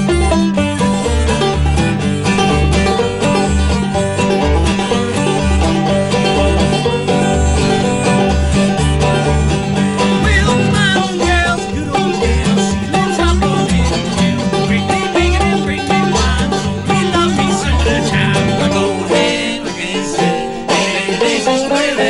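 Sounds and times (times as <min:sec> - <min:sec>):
banjo picking: 0:00.0 - 0:22.0
plucked upright bass: 0:00.0 - 0:22.0
string band playing: 0:00.0 - 0:22.0.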